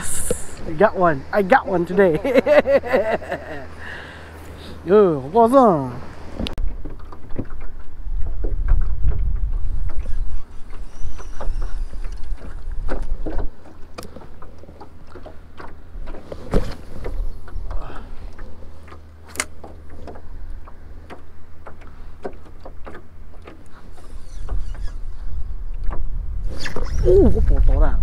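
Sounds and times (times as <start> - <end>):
low steady rumble: 0.0 - 28.0
water slapping boat hull: 0.0 - 28.0.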